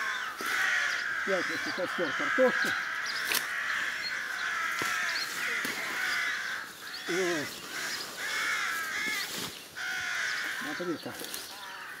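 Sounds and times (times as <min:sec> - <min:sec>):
branches clicking and snapping: 0:00.0 - 0:12.0
crows cawing: 0:00.0 - 0:12.0.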